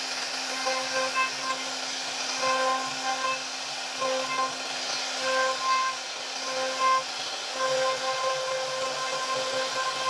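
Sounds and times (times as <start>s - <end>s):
router spindle humming and cutting: 0.0s - 10.0s
short whining tones: 0.0s - 10.0s.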